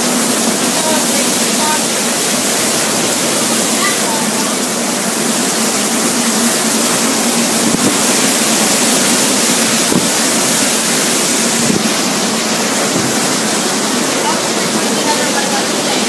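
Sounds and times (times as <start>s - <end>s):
hurricane winds and driving rain: 0.0s - 16.0s.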